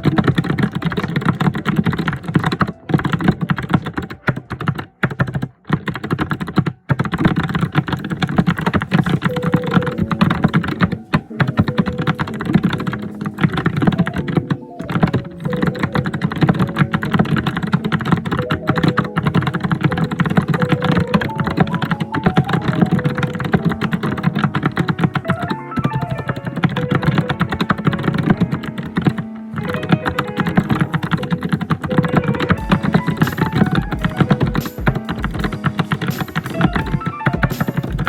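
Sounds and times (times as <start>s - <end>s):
fast keyboard typing: 0.0s - 38.0s.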